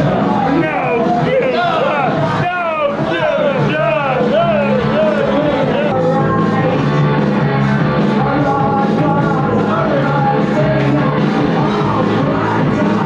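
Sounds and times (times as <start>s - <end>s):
driving drum beat: 0.0s - 13.0s
person singing: 0.0s - 13.0s
punk rock music: 0.0s - 13.0s.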